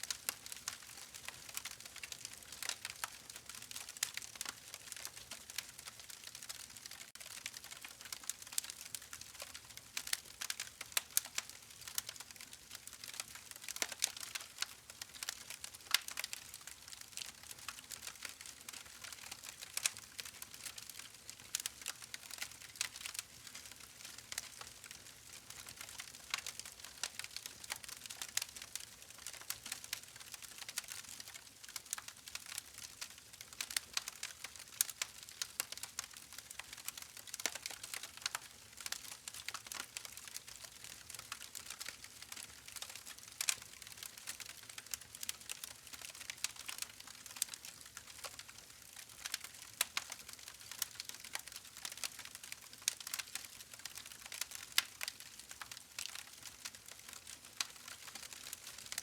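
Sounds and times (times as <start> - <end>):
campfire crackling and popping: 0.1 - 59.0.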